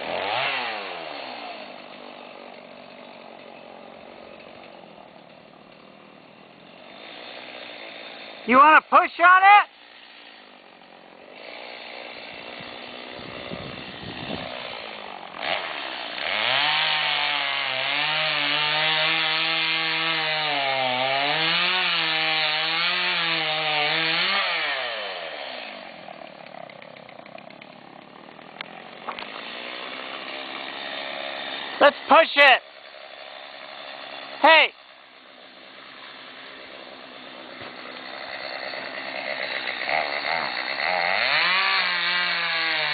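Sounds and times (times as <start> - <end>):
chainsaw idling and revving: 0.0 - 42.9.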